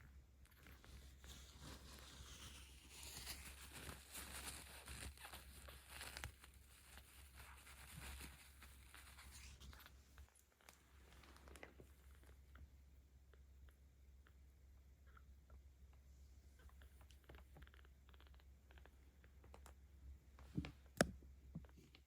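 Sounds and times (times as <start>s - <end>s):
kitten purring: 0.0s - 19.9s.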